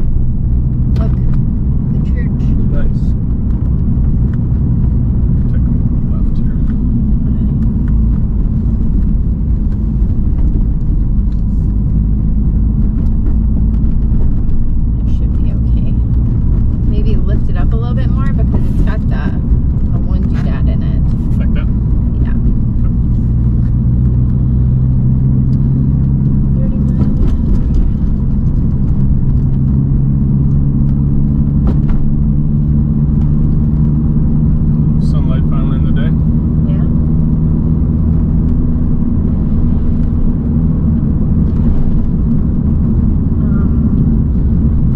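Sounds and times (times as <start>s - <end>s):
car cabin road and engine rumble: 0.0s - 44.9s.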